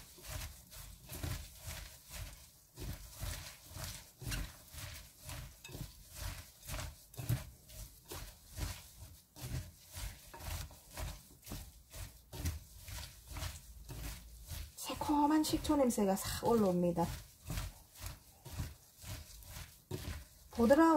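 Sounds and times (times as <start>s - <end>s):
wet squishing of kneaded radish: 0.0s - 20.9s.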